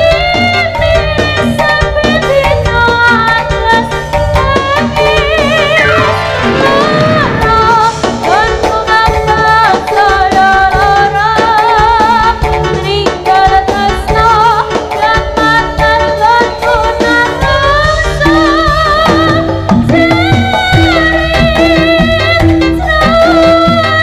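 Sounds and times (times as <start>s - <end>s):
drumming and percussion: 0.0s - 24.0s
woman singing with vibrato: 0.0s - 24.0s.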